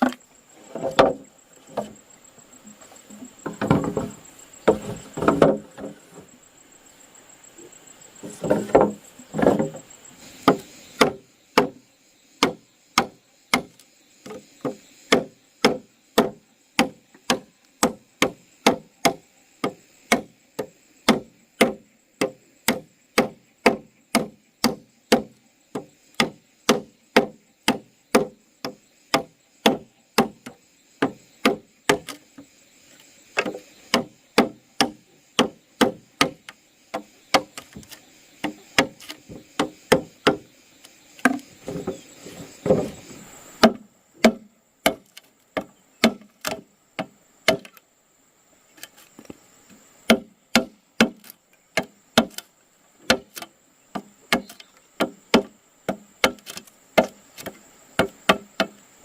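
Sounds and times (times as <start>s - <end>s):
wood chopping strikes: 0.0s - 2.0s, 3.1s - 6.0s, 8.2s - 9.8s, 10.4s - 11.8s, 12.4s - 32.5s, 33.4s - 40.5s, 41.2s - 47.8s, 50.0s - 58.8s.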